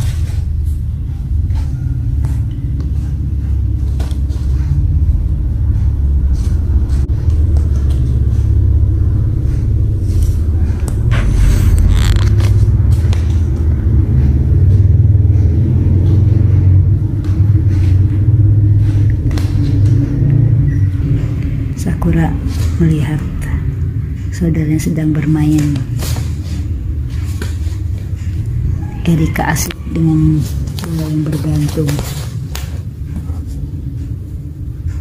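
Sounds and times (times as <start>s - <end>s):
kittens scratching and rustling: 0.0s - 21.3s, 25.2s - 35.0s
low rumble: 0.0s - 35.0s.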